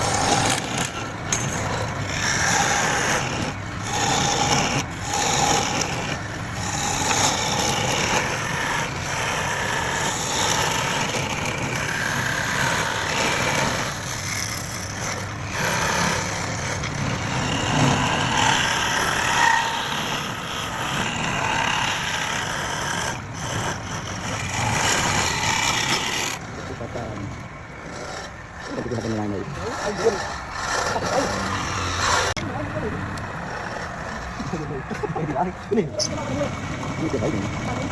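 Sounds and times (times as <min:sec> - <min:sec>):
lathe tool scraping wood: 0:00.0 - 0:37.9.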